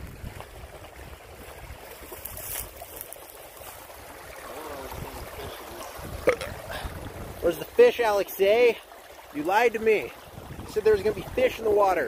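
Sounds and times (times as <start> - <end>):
wind rumbling on microphone: 0.0 - 7.9, 10.1 - 11.9
creek water trickling over stones: 0.0 - 12.0.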